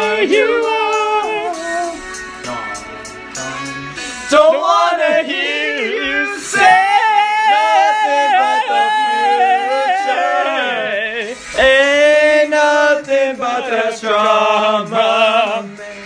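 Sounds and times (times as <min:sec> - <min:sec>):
man singing long notes: 0:00.0 - 0:16.0.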